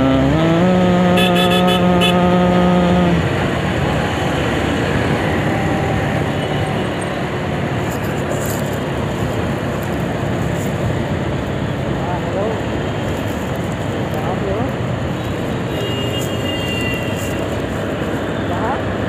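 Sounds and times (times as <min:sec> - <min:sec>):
tyre and road noise: 0:00.0 - 0:19.0.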